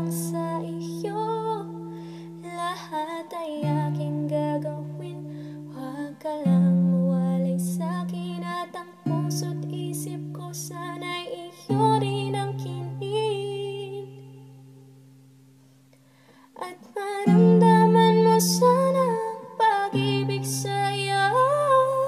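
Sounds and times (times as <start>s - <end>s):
woman singing a slow ballad: 0.0s - 14.6s, 16.4s - 22.0s.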